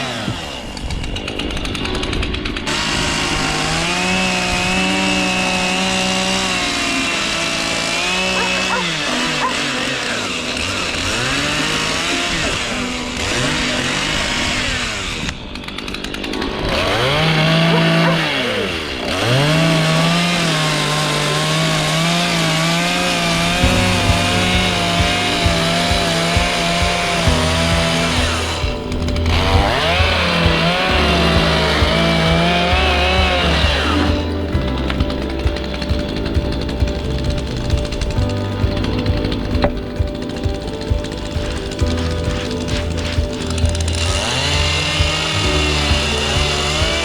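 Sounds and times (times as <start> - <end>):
chainsaw revving and cutting wood: 0.0 - 47.0
background music: 1.8 - 47.0.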